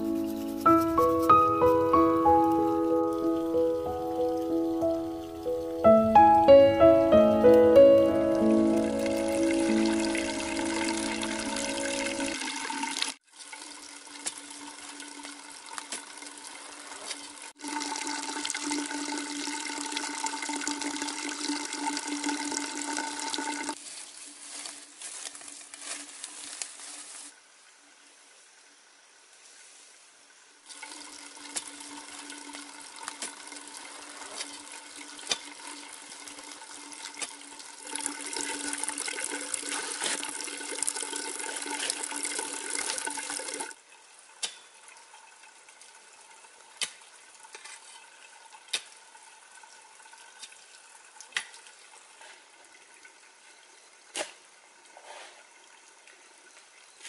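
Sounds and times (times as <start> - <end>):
water pouring and splashing: 0.0 - 27.4, 30.6 - 57.0.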